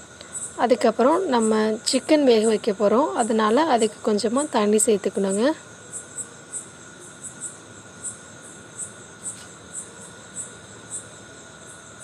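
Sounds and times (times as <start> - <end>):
faint background hum: 0.0 - 12.0
insect chirping: 0.0 - 12.0.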